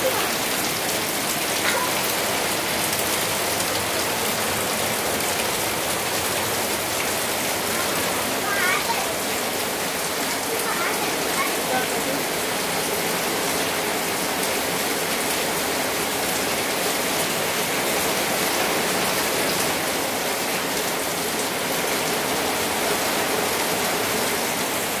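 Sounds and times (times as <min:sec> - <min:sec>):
heavy rain on concrete roof: 0:00.0 - 0:25.0
water streaming off awning: 0:00.0 - 0:25.0.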